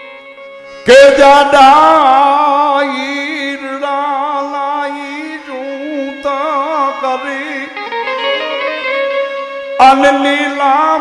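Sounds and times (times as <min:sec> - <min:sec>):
harmonium accompaniment: 0:00.0 - 0:11.0
man singing devotional folk song: 0:00.6 - 0:11.0.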